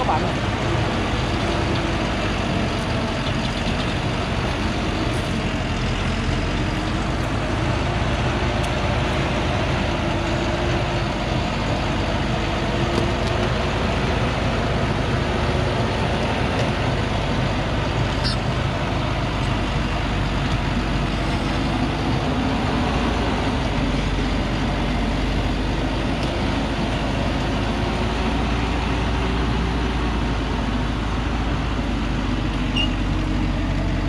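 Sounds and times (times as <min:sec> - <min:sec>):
diesel truck engine under load: 0:00.0 - 0:34.0.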